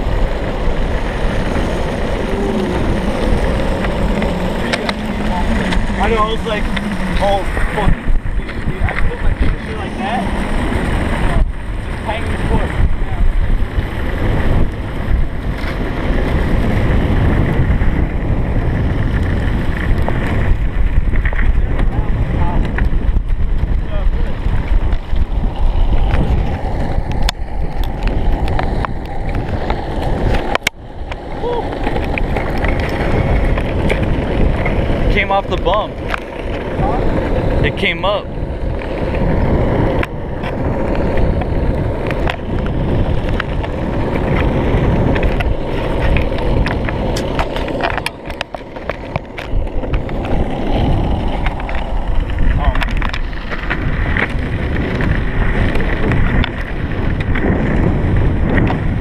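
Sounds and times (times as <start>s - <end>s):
wheels rolling on asphalt: 0.0s - 59.0s
wind buffeting microphone: 0.0s - 59.0s.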